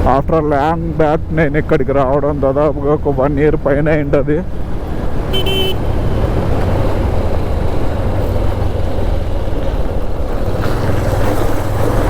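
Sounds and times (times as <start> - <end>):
motorcycle engine droning: 0.0 - 12.0
road and wind rush: 0.0 - 12.0.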